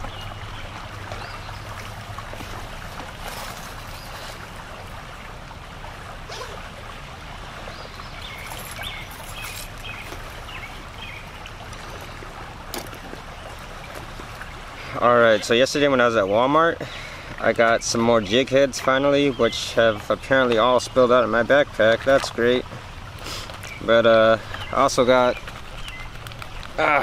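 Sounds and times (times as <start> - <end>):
creek water trickling: 0.0 - 27.0.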